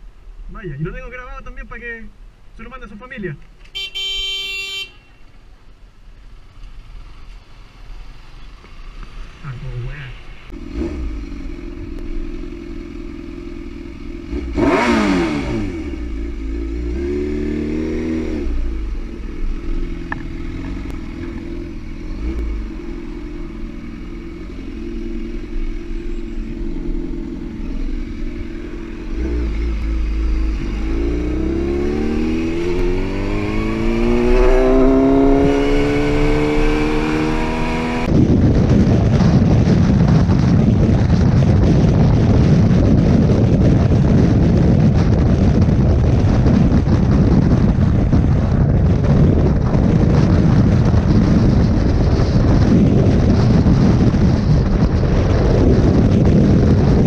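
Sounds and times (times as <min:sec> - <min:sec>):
motorcycle engine revving: 0:10.2 - 0:57.0
wind noise from riding: 0:10.5 - 0:57.0.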